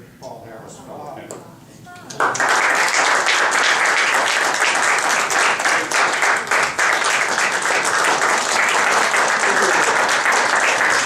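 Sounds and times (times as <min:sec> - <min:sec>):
crowd applauding: 0:02.1 - 0:11.0.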